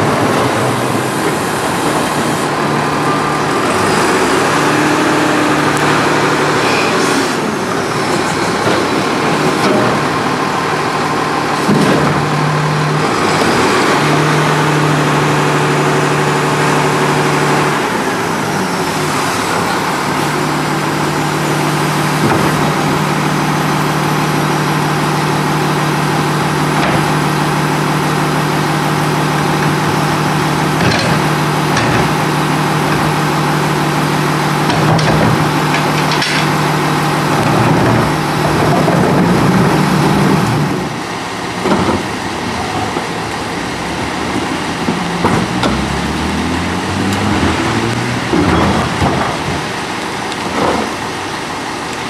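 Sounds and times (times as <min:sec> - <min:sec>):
garbage truck engine and hydraulics drone: 0:00.0 - 0:52.0.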